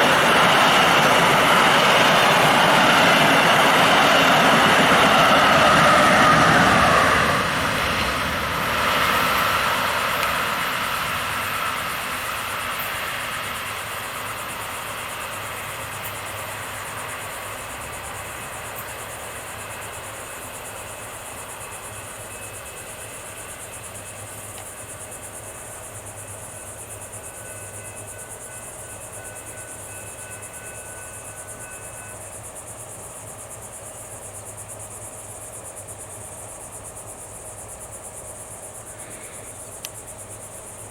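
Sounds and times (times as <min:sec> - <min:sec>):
insects chorus: 0:00.0 - 0:40.9
train engine rumble: 0:00.0 - 0:40.9.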